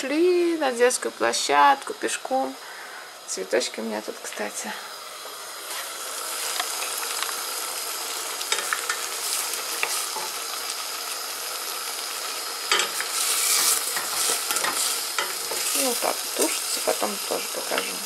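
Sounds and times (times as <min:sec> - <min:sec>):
vegetables sizzling in a pot: 0:00.0 - 0:18.0.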